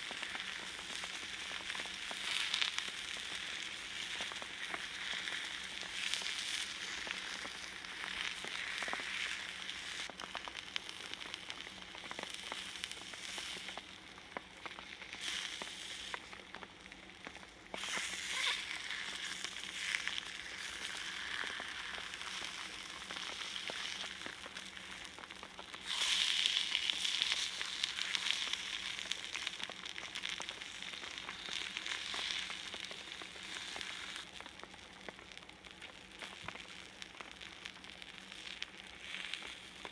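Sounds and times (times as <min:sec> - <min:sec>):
fish sizzling on griddle: 0:00.0 - 0:39.9.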